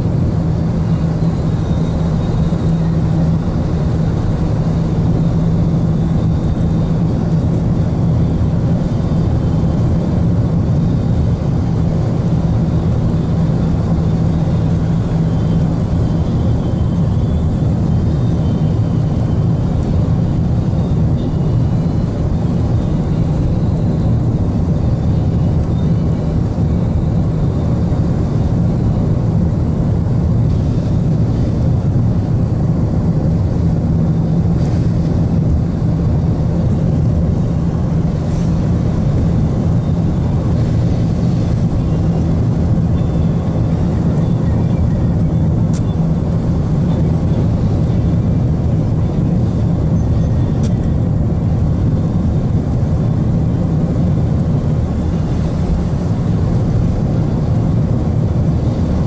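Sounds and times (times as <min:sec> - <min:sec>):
car engine drone: 0:00.0 - 0:59.0
steady hum: 0:00.0 - 0:59.0.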